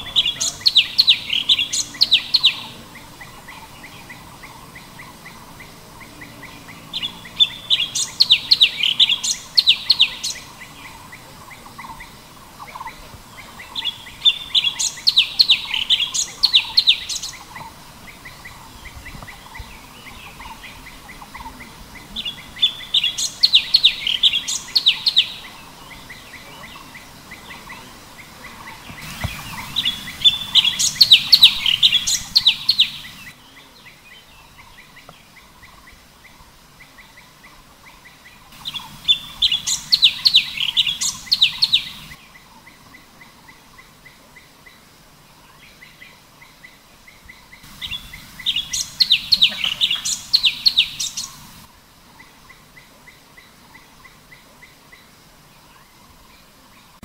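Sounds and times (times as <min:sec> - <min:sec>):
bird chattering song: 0:00.0 - 0:44.8, 0:45.4 - 0:55.1
soft faint bird chirps: 0:00.0 - 0:57.0.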